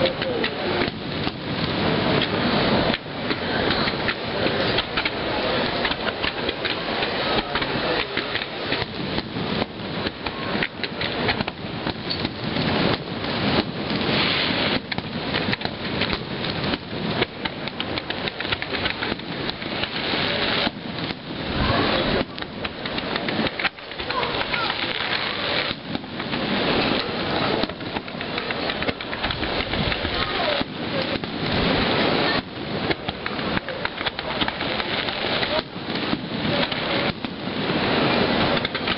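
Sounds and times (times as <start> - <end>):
firework bangs and crackles: 0.0 - 38.9.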